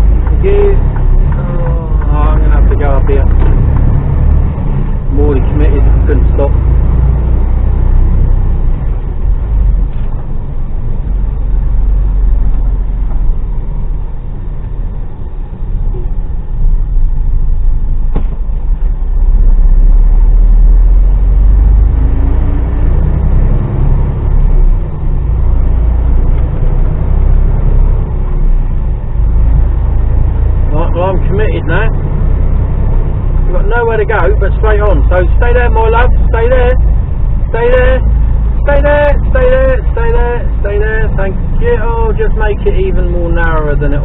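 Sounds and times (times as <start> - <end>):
diesel lorry engine rumbling: 0.0 - 44.0.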